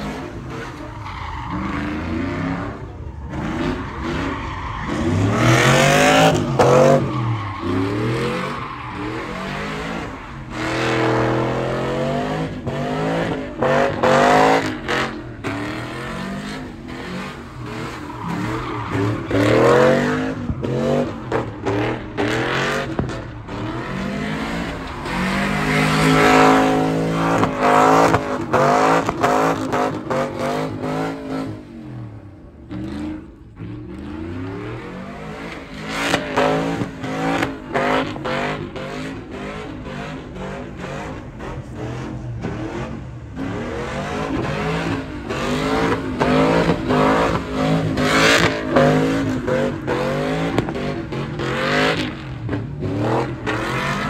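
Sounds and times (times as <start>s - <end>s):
tires squealing on pavement: 0.0s - 54.0s
truck engine revving: 0.0s - 54.0s.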